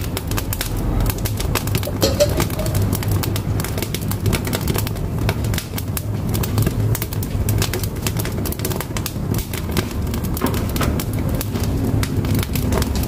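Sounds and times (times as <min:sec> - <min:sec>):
firewood crackling and popping: 0:00.0 - 0:13.0
stove low rumble: 0:00.0 - 0:13.0.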